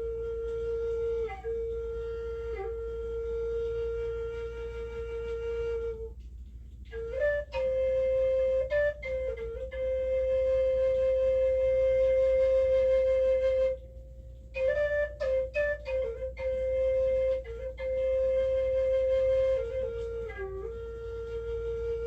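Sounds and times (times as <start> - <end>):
flute playing held notes: 0.0 - 22.0.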